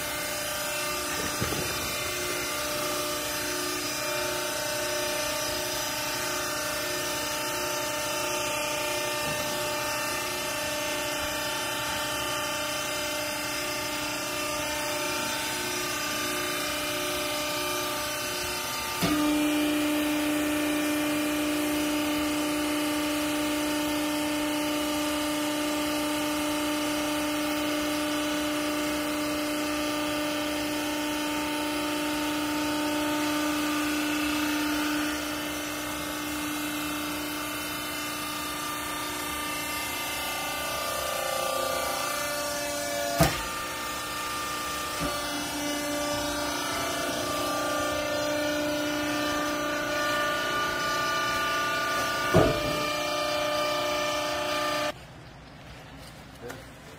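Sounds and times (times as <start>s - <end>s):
hydraulic baler motor humming: 0.0s - 55.0s.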